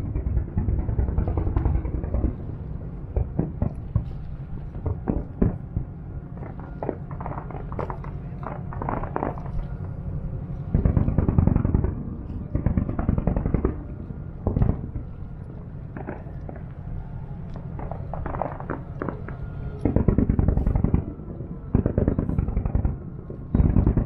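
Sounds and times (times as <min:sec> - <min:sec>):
distant fireworks bangs and crackles: 0:00.0 - 0:24.0
low rumble: 0:00.0 - 0:24.0.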